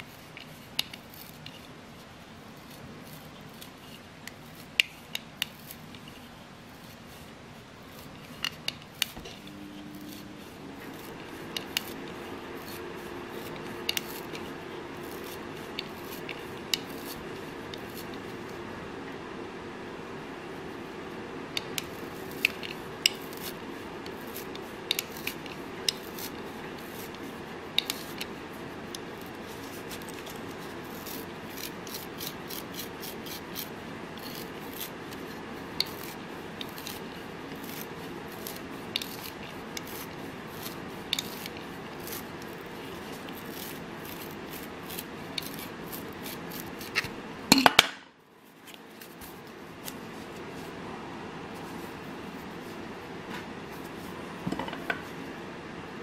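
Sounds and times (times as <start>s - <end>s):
background hum: 0.0s - 56.0s.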